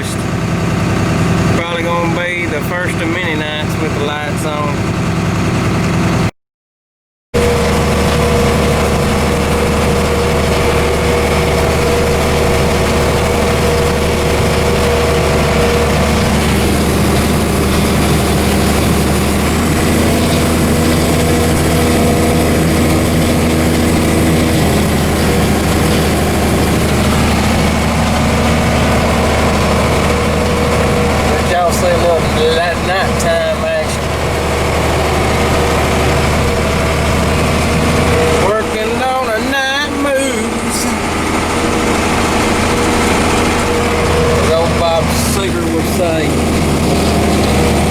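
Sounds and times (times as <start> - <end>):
diesel engine droning: 0.0 - 6.3, 7.4 - 47.9.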